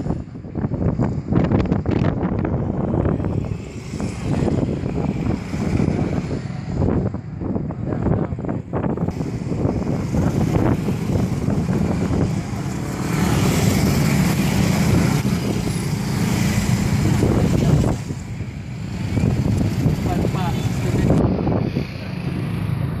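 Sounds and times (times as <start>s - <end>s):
motorcycles passing on road: 0.0s - 23.0s.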